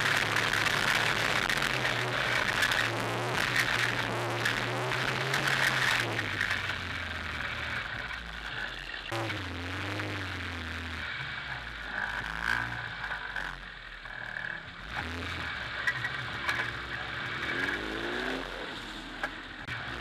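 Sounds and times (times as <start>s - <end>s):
off-road engine running under load: 0.0s - 20.0s.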